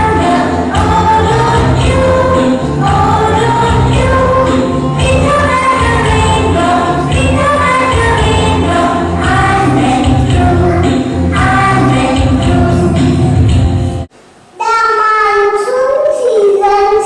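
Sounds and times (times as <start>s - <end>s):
song with steady bass beat: 0.0s - 14.1s.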